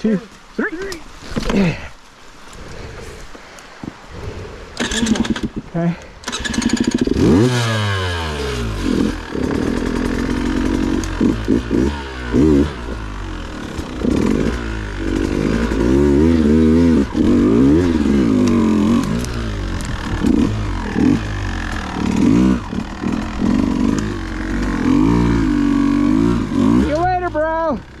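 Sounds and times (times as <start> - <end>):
dirt bike engine revving: 4.8 - 5.6, 6.2 - 28.0.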